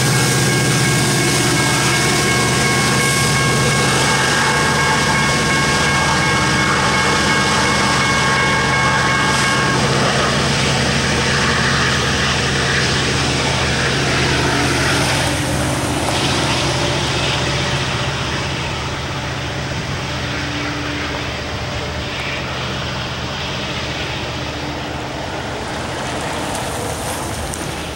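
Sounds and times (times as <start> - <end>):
steady high whine: 0.0 - 27.9
train rumbling: 0.0 - 27.9.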